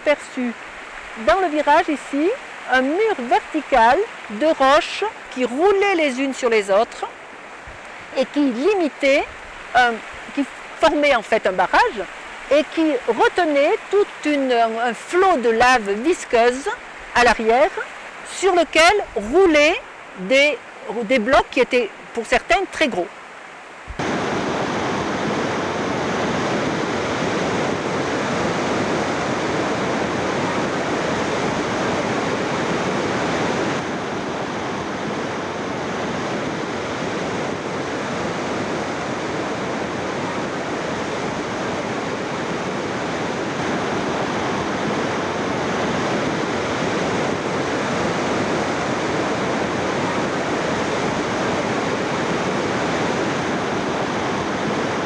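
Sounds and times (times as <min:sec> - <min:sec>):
mountain torrent rushing over stones: 0:00.0 - 0:55.0.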